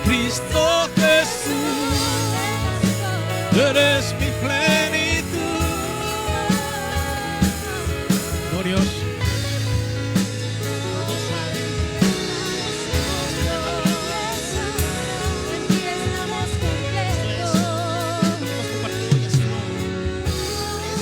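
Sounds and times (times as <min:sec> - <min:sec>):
drum kit and bass: 0:00.0 - 0:21.0
melody line with vibrato: 0:00.0 - 0:21.0
person singing: 0:00.0 - 0:21.0.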